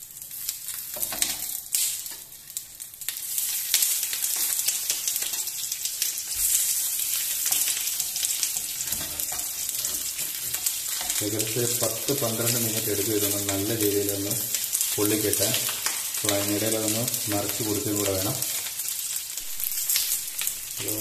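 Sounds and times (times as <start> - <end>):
hot oil sizzling: 0.0 - 21.0.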